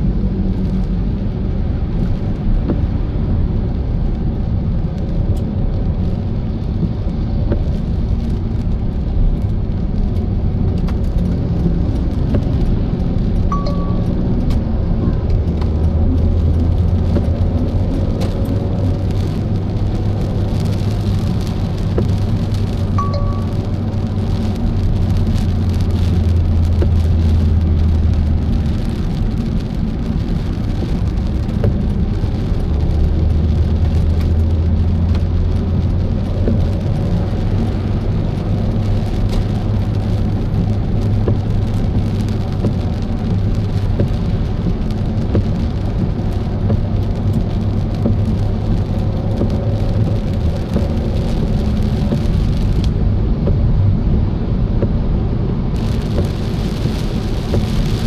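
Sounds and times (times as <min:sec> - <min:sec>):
engine and tyres on wet road: 0:00.0 - 0:58.0
rain striking a car: 0:00.1 - 0:58.0.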